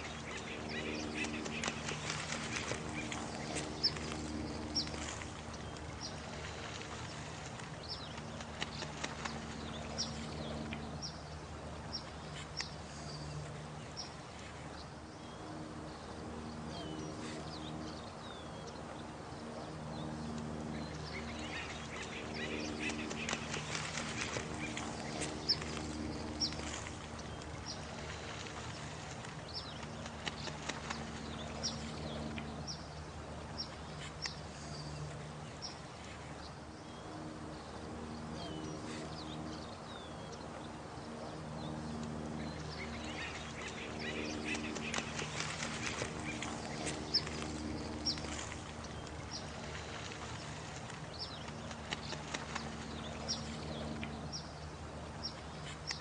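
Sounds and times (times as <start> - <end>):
running water: 0.0 - 56.0
steady low hum: 0.0 - 56.0.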